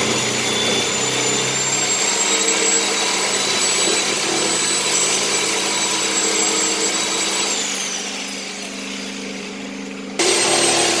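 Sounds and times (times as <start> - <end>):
power tool cutting plastic: 0.0 - 11.0.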